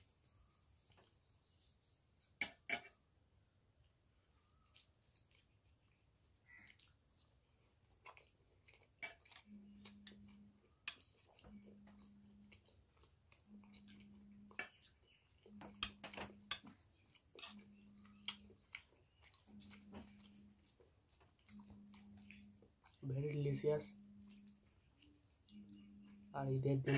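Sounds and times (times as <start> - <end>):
faint low hum: 2.9 - 26.9
person chewing food: 3.8 - 26.9.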